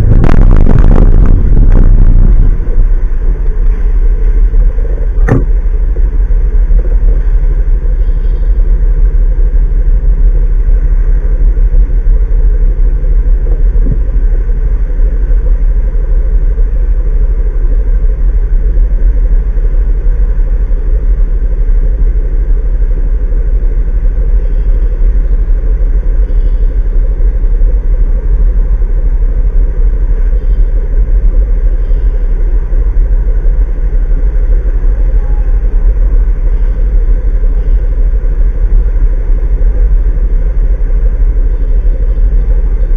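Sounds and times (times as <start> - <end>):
truck engine rumbling: 0.0 - 42.9.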